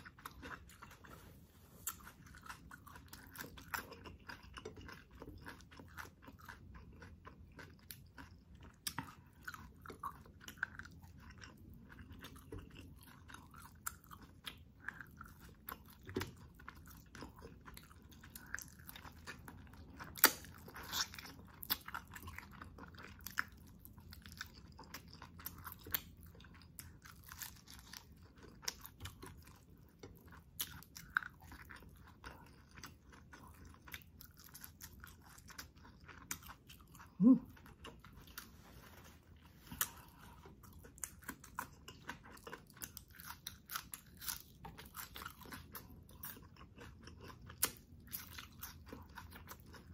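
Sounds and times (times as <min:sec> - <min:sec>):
chewing and biting food: 0:00.0 - 0:49.9.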